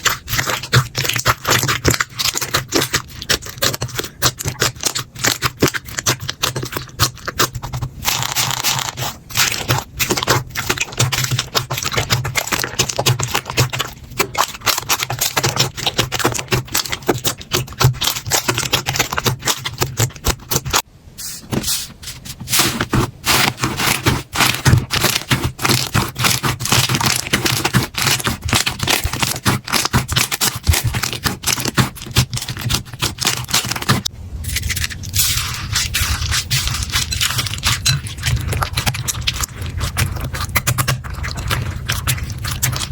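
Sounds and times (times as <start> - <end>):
slime squishing and crackling: 0.0 - 20.9, 22.0 - 42.9.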